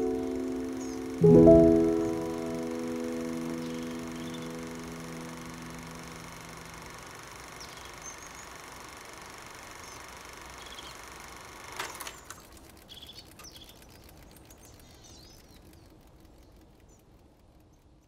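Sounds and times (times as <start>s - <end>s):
faint clicks: 0.0s - 18.0s
small birds chirping: 0.0s - 18.0s.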